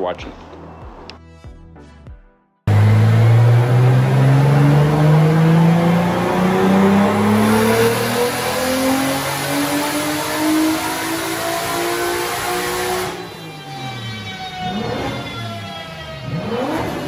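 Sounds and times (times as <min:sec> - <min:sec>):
car engine revving on a dyno: 0:02.7 - 0:17.0.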